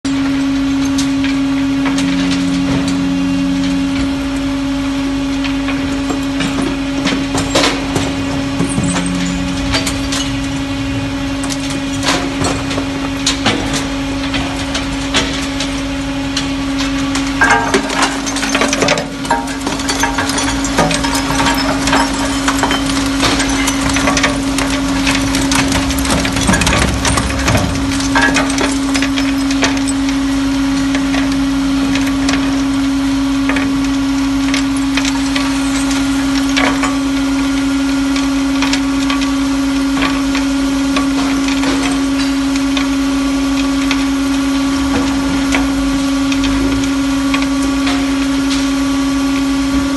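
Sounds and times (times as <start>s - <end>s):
machine hum: 0.0s - 49.9s
metal crunching: 0.1s - 49.3s
clattering broken metal pieces: 0.6s - 4.5s, 5.2s - 48.7s.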